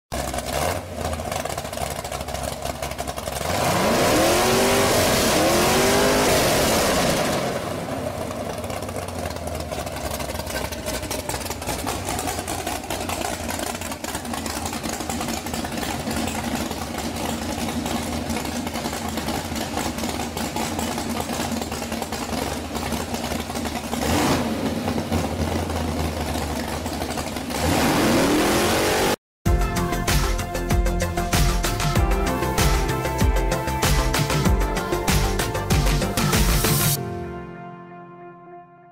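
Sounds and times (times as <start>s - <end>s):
car engine idling and revving: 0.1s - 37.0s.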